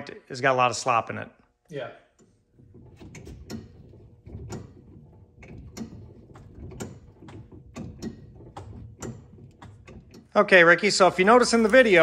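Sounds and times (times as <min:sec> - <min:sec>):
steering linkage knocking: 0:02.1 - 0:12.0.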